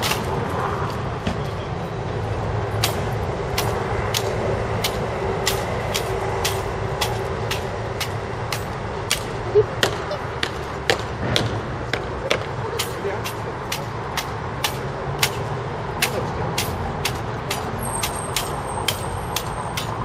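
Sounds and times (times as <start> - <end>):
traffic hum: 0.0 - 20.0
sharp evenly spaced clicks: 2.8 - 20.0.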